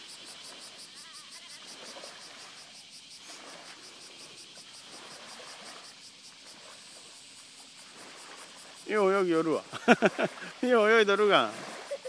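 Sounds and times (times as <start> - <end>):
insects chirping: 0.0 - 12.0
small waves lapping: 0.0 - 12.0.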